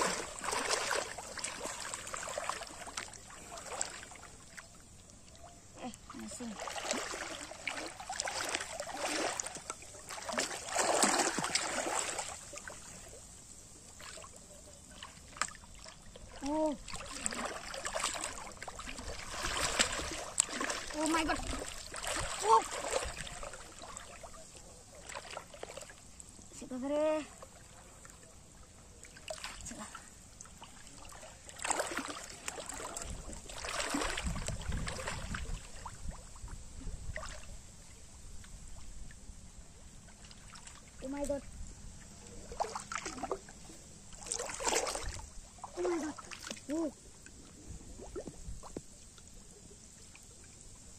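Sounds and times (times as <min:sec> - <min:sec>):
water sloshing from wading: 0:00.0 - 0:50.9.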